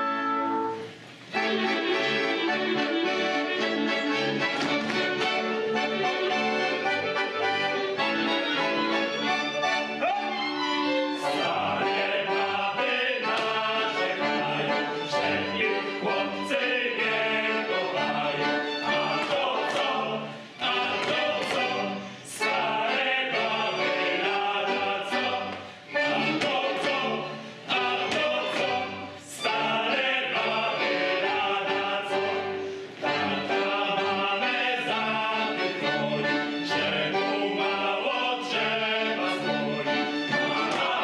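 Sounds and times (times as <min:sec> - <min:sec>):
accordion: 0:00.0 - 0:41.0
fiddles: 0:00.0 - 0:41.0
folk chorus singing: 0:01.3 - 0:41.0.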